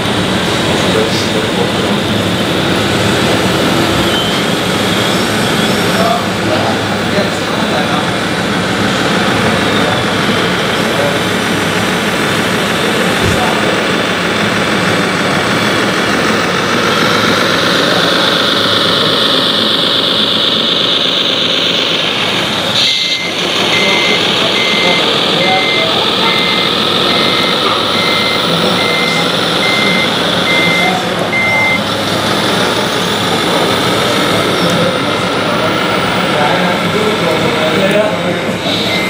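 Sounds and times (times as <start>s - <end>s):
reversing beeper: 0.0s - 14.4s, 15.0s - 39.0s.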